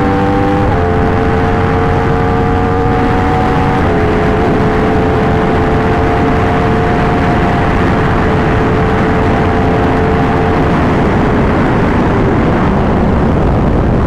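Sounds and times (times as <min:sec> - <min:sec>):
motorcycle engine cruising: 0:00.0 - 0:14.0
wind noise: 0:00.0 - 0:14.0.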